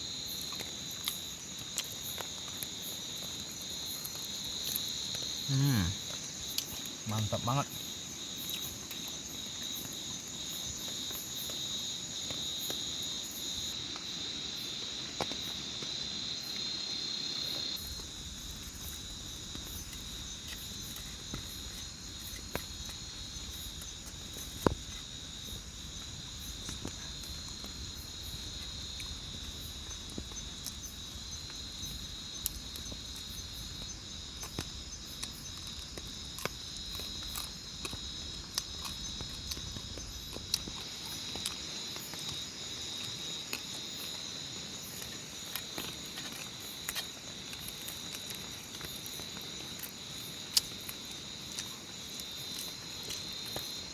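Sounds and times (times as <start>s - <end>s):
crickets and insects chorus: 0.0s - 53.9s.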